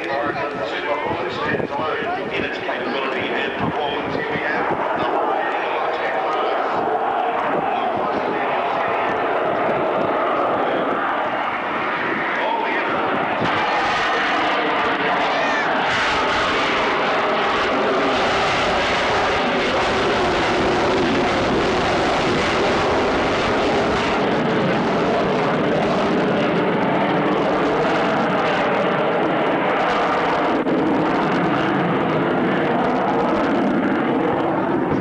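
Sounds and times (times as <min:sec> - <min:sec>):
aircraft engines roaring: 0:00.0 - 0:35.0.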